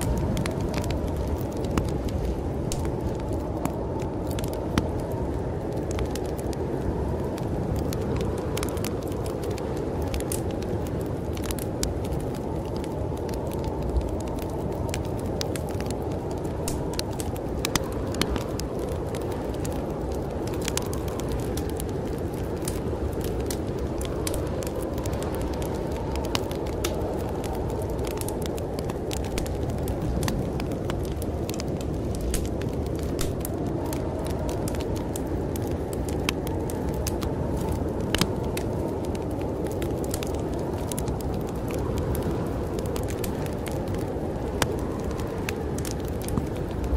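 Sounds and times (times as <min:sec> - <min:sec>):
low rush of storm wind: 0:00.0 - 0:46.9
wood fire crackling and popping: 0:00.0 - 0:46.9.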